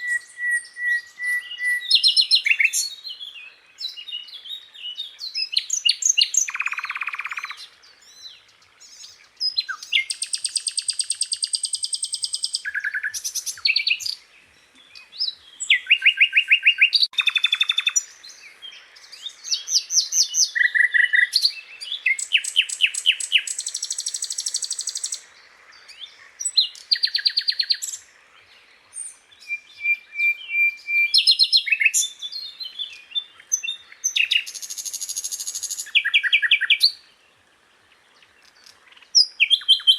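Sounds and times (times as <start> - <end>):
bird singing trills and whistles: 0.0 - 37.1, 38.2 - 39.9.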